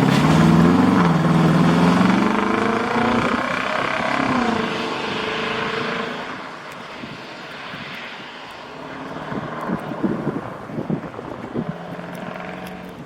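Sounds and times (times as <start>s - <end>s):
car exhaust burble: 0.0s - 7.8s, 8.6s - 13.0s.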